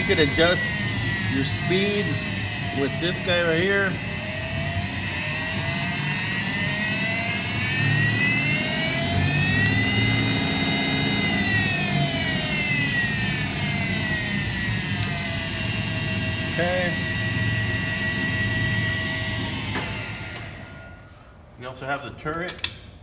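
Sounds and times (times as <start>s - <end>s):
lathe spindle whine: 0.0s - 21.4s.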